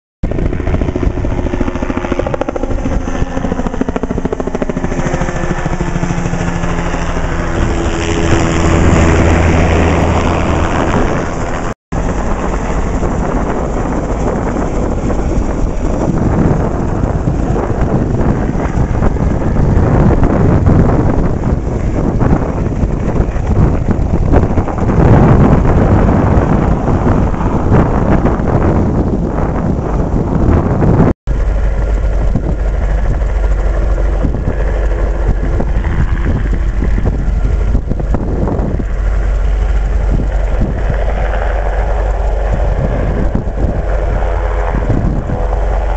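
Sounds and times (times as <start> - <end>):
helicopter passing overhead: 0.2 - 45.9.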